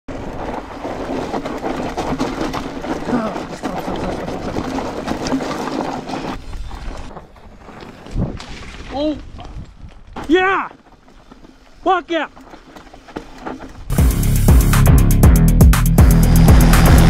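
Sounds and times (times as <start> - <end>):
tyres crunching over gravel: 0.1 - 14.0
bike rattling: 0.1 - 14.8, 15.5 - 17.0.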